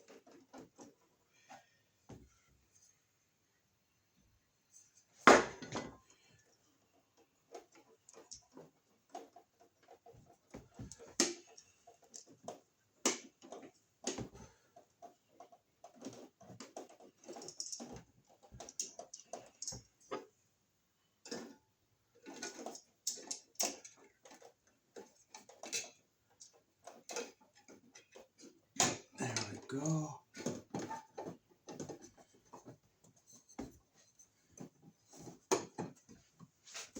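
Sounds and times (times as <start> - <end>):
clicks taps and scrapes of handling: 4.7 - 20.4, 21.2 - 29.2, 30.3 - 36.9.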